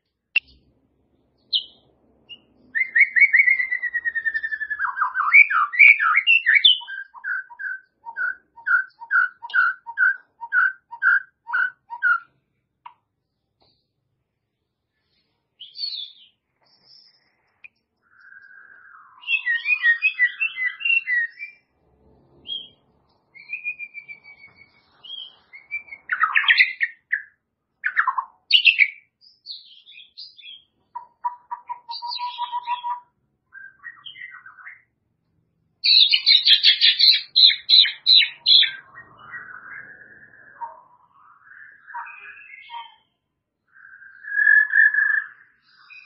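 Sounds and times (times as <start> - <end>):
bird singing whistles: 1.4 - 12.3, 15.6 - 17.3, 18.0 - 21.7, 22.4 - 34.9, 35.8 - 43.1, 43.7 - 46.0.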